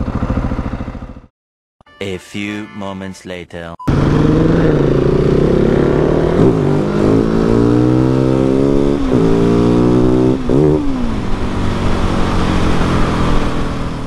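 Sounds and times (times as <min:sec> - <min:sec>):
motorcycle engine accelerating: 0:00.0 - 0:01.3, 0:03.9 - 0:14.0.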